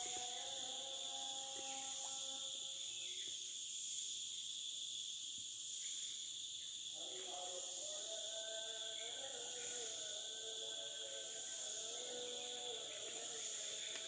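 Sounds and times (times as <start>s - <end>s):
insect chorus: 0.0s - 14.0s.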